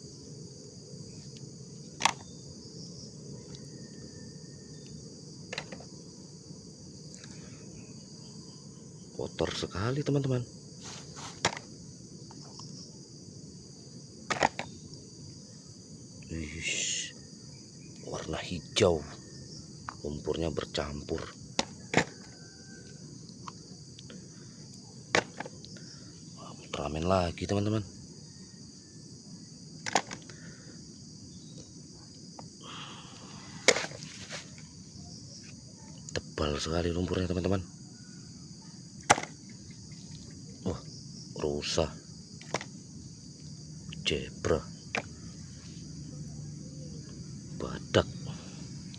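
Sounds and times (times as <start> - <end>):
crickets chirring: 0.0 - 48.9.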